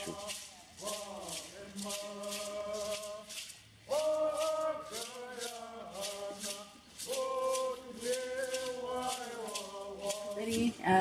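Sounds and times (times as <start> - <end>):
chanted singing: 0.0 - 11.0
rattle shaken in a beat: 0.0 - 11.0.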